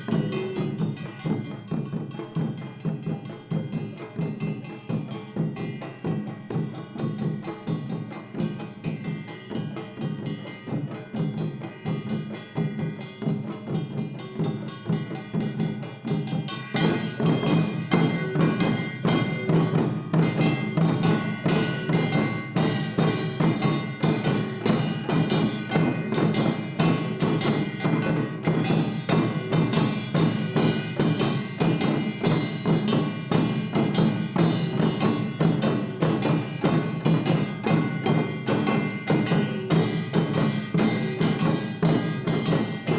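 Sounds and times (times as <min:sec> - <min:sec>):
percussion ensemble drumming: 0:00.0 - 0:42.9.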